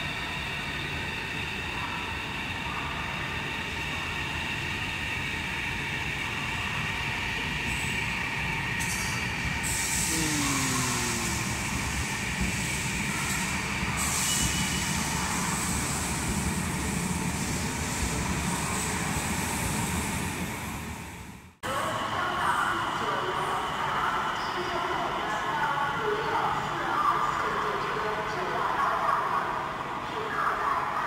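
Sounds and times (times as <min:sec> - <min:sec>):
high-speed train rumbling past: 0:00.0 - 0:31.0.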